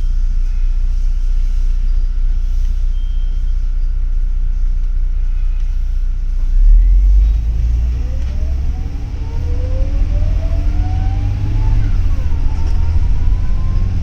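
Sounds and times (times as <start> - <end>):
bus engine rumble with whine: 0.0 - 14.0.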